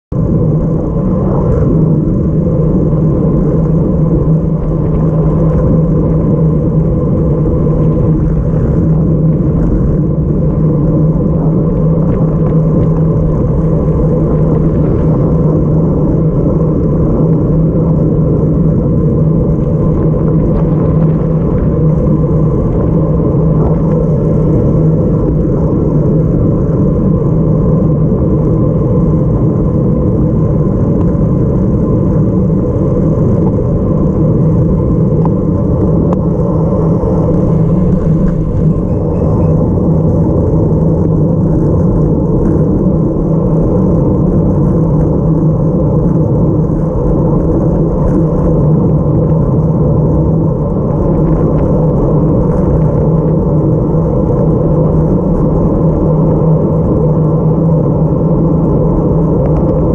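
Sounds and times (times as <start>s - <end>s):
bicycle tyres humming on road: 0.1s - 59.9s
wind buffeting microphone: 0.1s - 59.9s.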